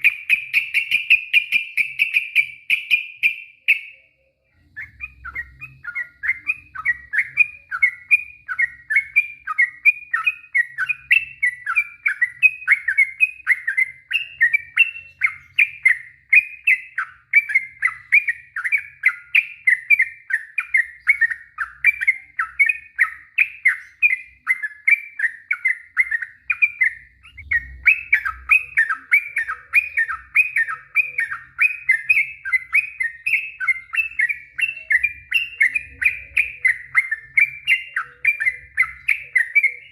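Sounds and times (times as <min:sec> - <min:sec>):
bird singing bubbly warbled notes: 0:00.0 - 0:39.9.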